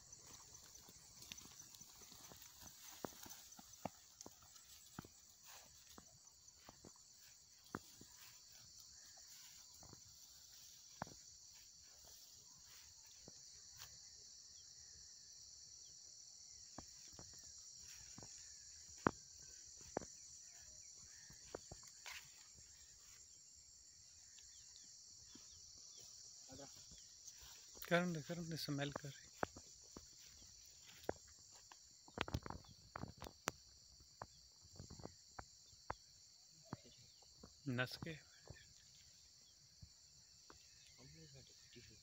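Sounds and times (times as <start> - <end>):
crickets chirring: 0.0 - 42.0.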